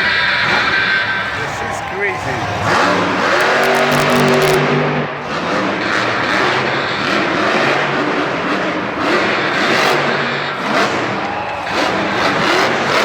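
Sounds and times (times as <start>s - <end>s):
monster truck engines revving: 0.0s - 13.0s.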